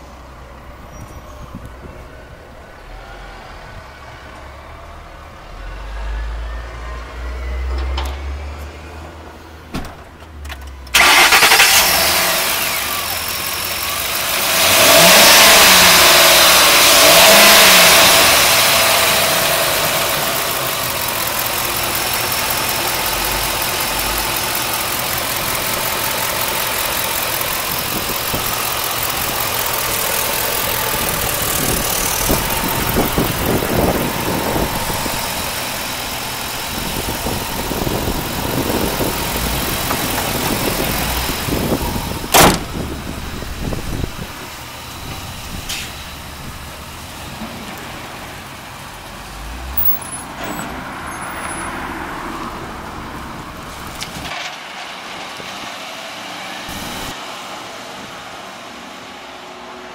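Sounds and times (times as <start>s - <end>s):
truck engine starting and revving: 1.0s - 57.8s.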